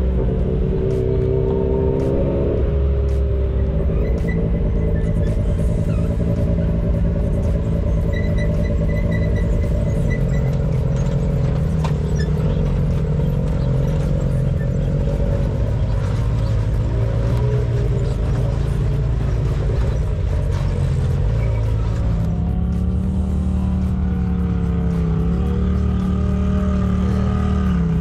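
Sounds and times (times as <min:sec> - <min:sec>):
utility vehicle engine running: 0:00.0 - 0:28.0.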